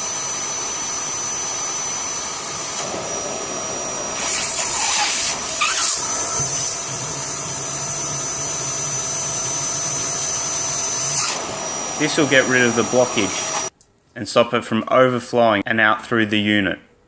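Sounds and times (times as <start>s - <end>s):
vacuum cleaner suction: 0.0s - 13.7s.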